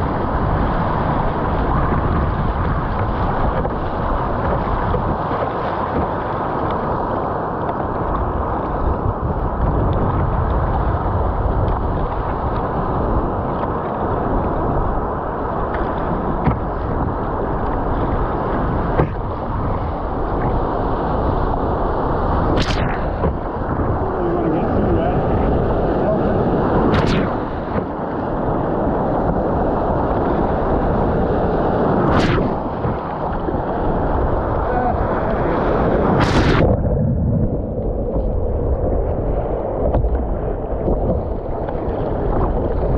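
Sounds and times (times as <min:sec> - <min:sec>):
water splashing around boat: 0:00.0 - 0:42.9
wind on microphone: 0:00.0 - 0:42.9.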